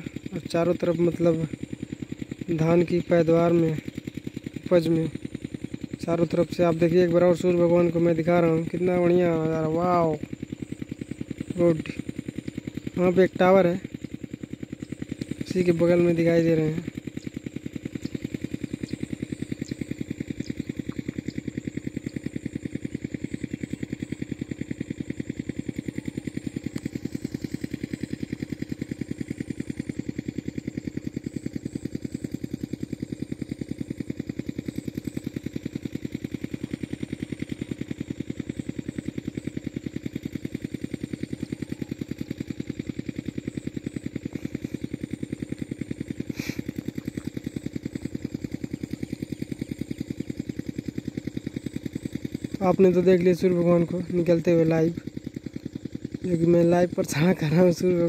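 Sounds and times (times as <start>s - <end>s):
diesel pump engine chugging: 0.0s - 58.0s.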